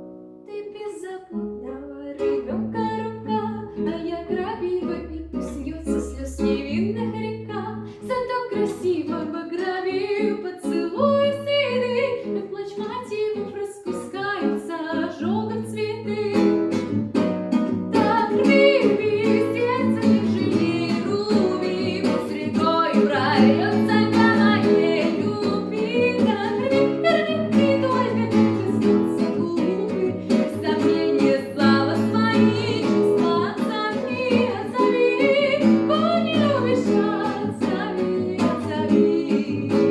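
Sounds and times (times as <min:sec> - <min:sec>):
guitar accompaniment: 0:00.0 - 0:39.9
woman singing a pop song: 0:00.5 - 0:17.0, 0:17.9 - 0:39.9.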